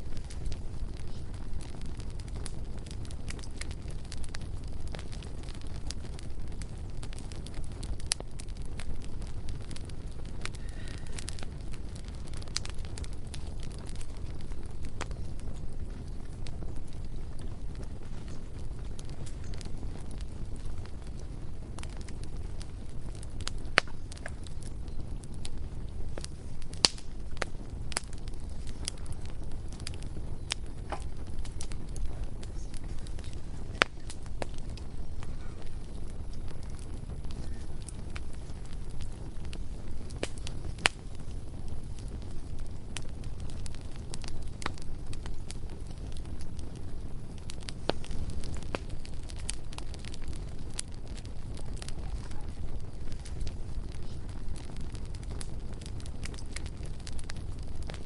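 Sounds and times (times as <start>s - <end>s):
bonfire crackling and popping: 0.0s - 58.0s
low steady fire rumble: 0.0s - 58.0s.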